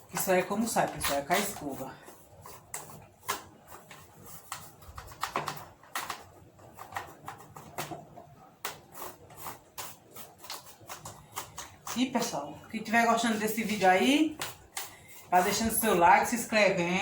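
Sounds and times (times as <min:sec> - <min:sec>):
brush scrubbing a fan: 0:00.0 - 0:17.0.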